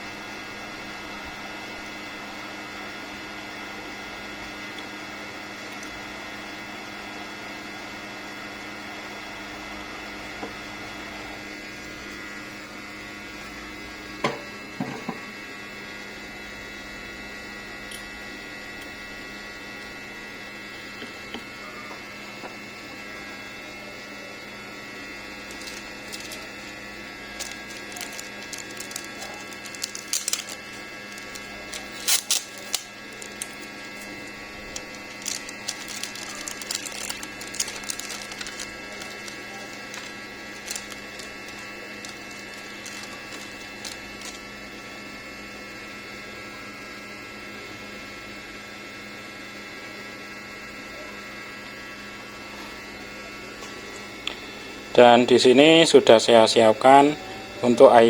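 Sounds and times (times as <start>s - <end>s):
electrical hum with tones: 0.0s - 58.0s.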